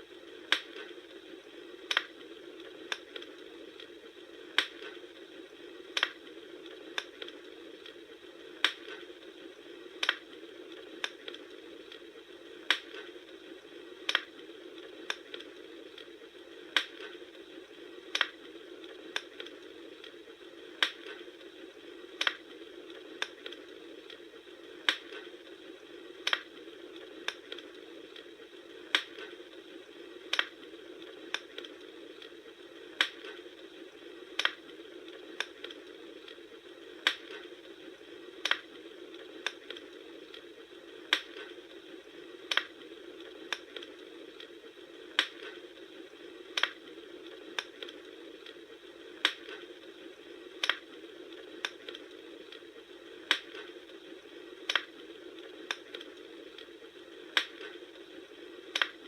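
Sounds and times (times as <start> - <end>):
bonfire crackling and popping: 0.0 - 59.0
steady fire hiss: 0.0 - 59.0.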